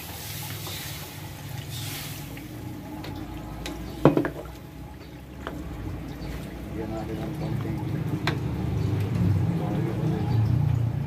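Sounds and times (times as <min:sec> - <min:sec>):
water splashing into a wok: 0:00.0 - 0:11.0.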